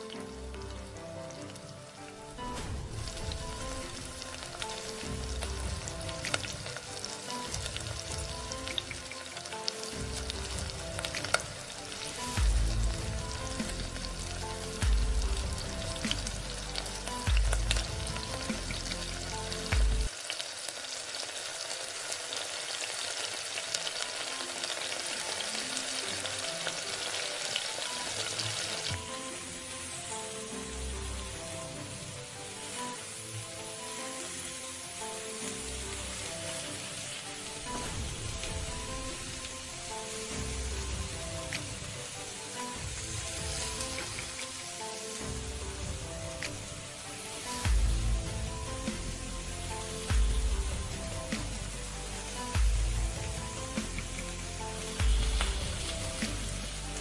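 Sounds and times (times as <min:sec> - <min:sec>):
paste sizzling in hot oil: 0:01.3 - 0:57.0.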